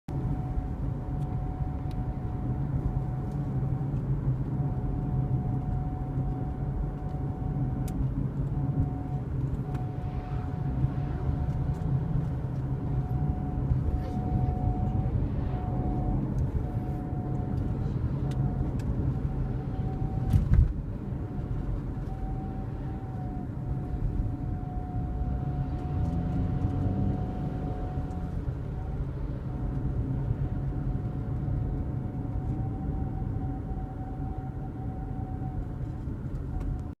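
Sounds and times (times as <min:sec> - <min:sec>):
car rumbling in motion: 0:00.1 - 0:37.0.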